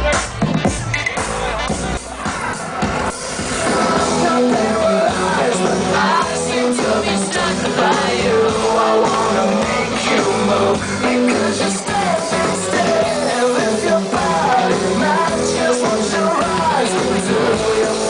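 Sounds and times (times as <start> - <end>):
loud rock song with singer: 0.0 - 18.0.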